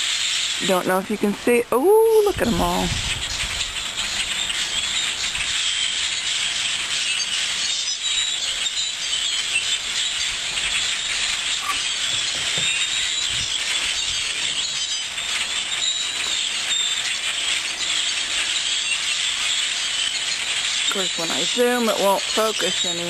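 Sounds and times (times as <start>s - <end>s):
flock of birds chirping: 0.0s - 23.0s.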